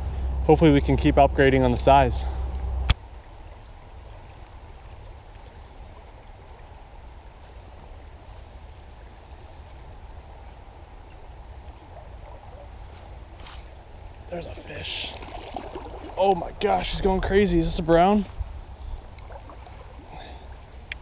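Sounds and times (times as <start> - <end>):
stream water over gravel: 0.5 - 21.0.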